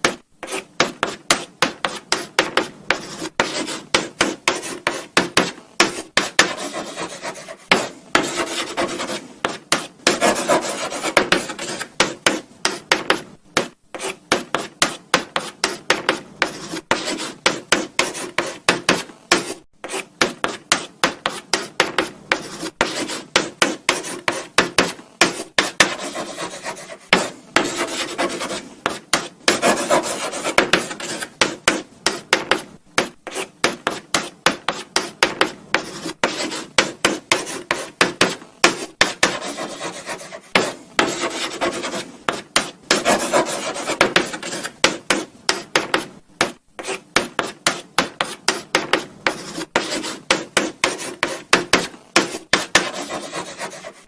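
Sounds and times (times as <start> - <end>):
chalk writing on blackboard: 0.0 - 54.0.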